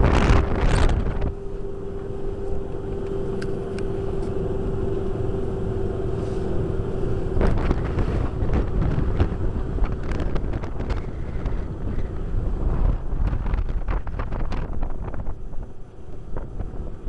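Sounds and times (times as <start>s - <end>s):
steady hum: 0.0s - 17.0s
wind buffeting microphone: 0.0s - 17.0s.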